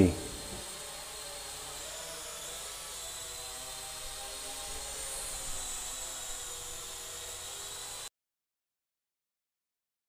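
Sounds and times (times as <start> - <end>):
electric propellers whining: 0.0 - 8.1.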